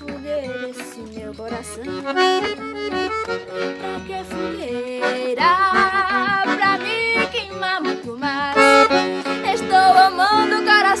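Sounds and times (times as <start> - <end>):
accordion playing: 0.0 - 11.0.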